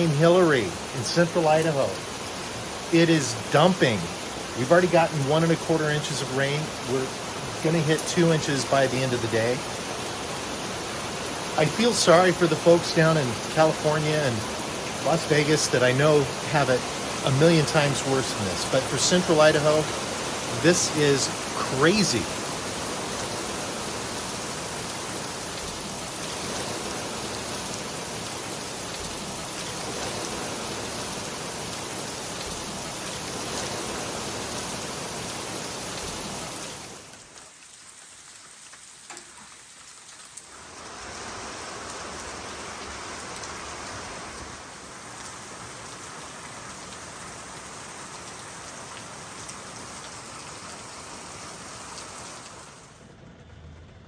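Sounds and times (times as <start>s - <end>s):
heavy rain pouring: 0.0s - 53.1s.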